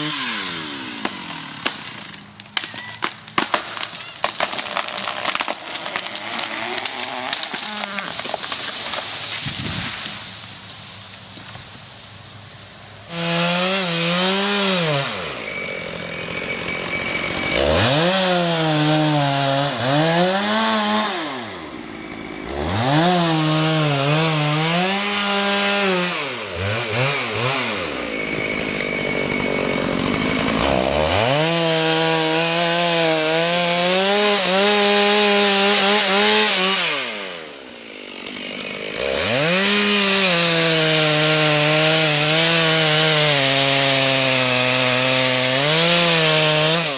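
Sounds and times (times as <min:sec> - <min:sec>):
chainsaw cutting wood: 0:00.0 - 0:10.3, 0:13.1 - 0:46.9.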